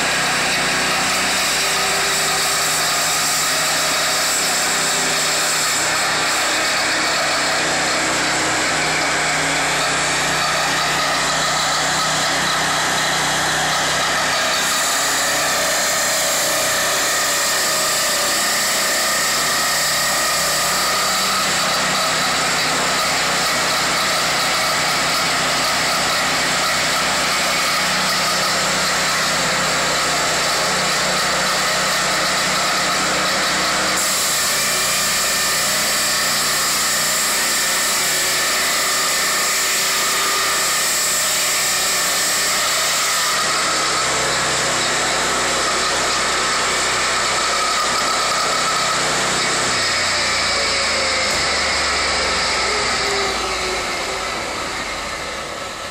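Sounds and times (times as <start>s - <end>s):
sawmill blade cutting log: 0.0s - 55.9s
sawmill engine running: 0.0s - 55.9s.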